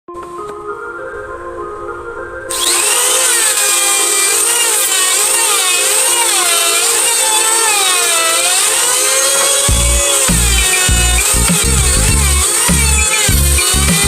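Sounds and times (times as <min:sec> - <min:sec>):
background music: 0:00.1 - 0:14.0
power tool cutting wood: 0:02.5 - 0:14.0.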